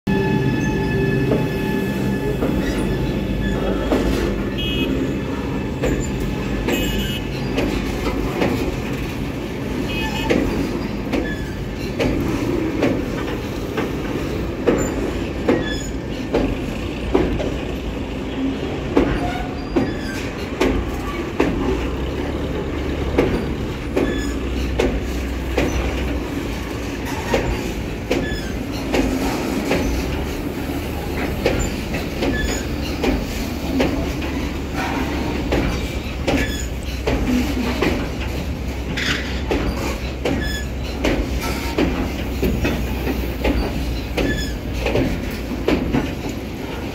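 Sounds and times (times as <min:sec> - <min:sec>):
train wheels rumbling on rail: 0:00.1 - 0:46.9
wheels clacking over rail joints: 0:00.2 - 0:46.9.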